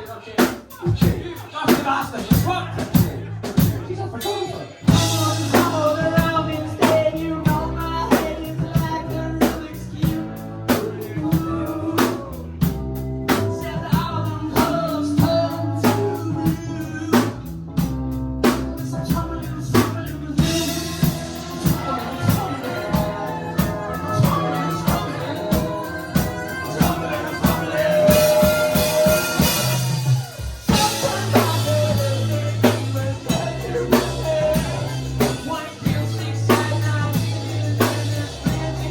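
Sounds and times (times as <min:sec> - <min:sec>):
drum kit beat: 0:00.0 - 0:38.9
rock band playing: 0:00.0 - 0:38.9.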